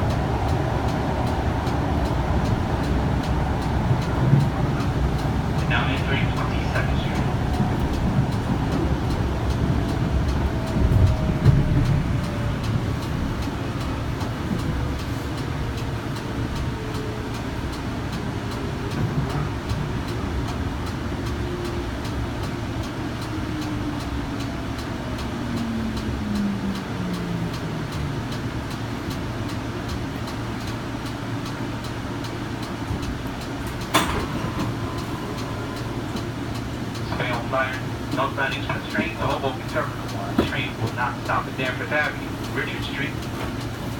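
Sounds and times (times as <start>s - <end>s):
traction motors whining: 0.0s - 43.9s
wheels rumbling on rail: 0.0s - 43.9s.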